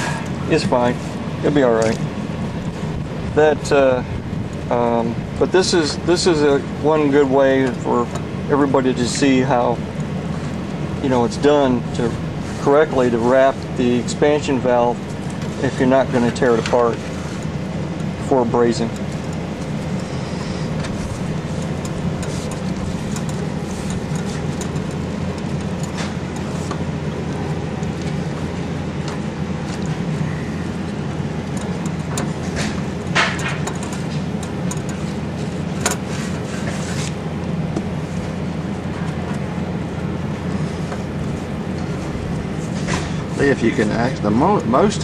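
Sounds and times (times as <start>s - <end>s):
low mechanical drone: 0.0s - 45.0s.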